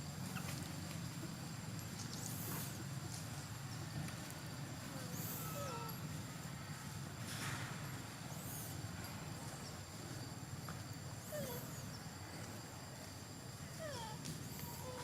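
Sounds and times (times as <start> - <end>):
outdoor background hum: 0.0 - 15.0.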